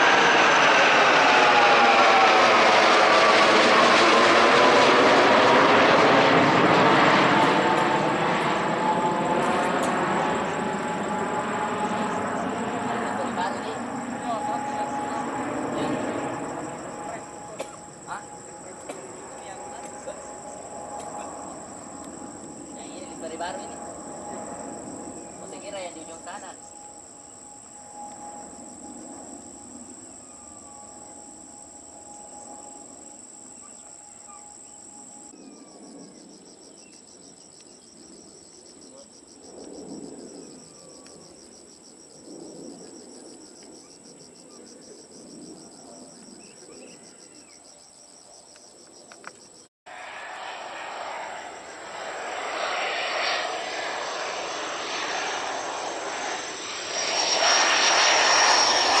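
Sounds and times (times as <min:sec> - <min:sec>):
jet airliner engines: 0:00.0 - 0:59.0
insects trilling: 0:05.0 - 0:59.0.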